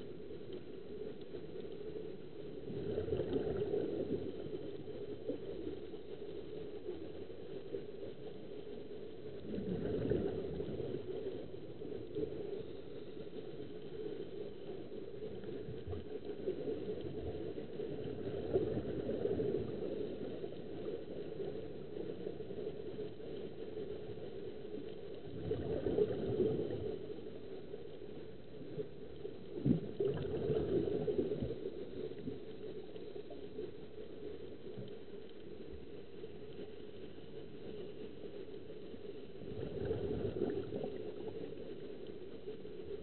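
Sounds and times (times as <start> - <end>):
muffled underwater noise: 0.0 - 43.0.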